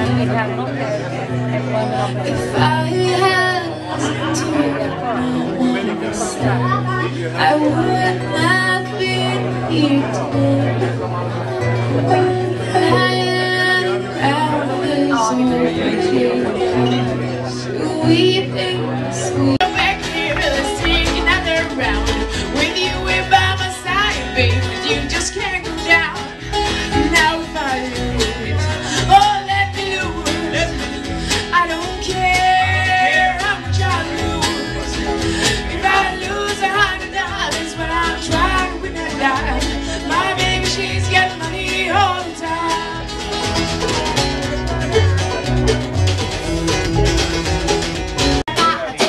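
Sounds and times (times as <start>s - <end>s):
acoustic guitar picking: 0.0s - 49.0s
banjo picking: 0.0s - 49.0s
upright bass line: 0.0s - 49.0s
person singing: 1.8s - 45.0s, 48.2s - 49.0s.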